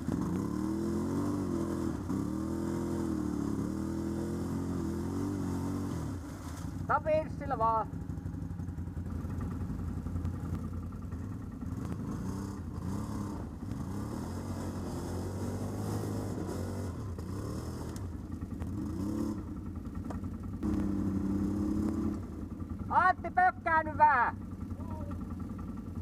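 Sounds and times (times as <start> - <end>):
atv engines revving: 0.0 - 26.0.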